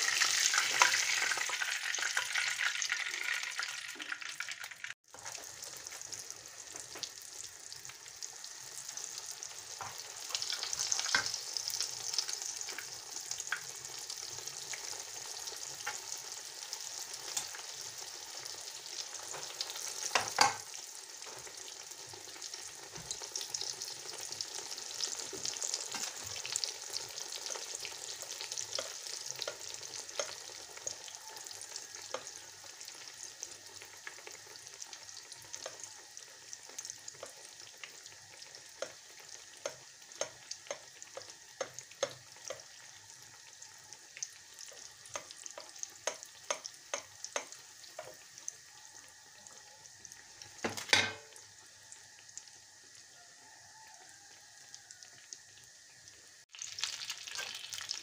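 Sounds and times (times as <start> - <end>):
dough sizzling in hot oil: 0.0 - 58.0.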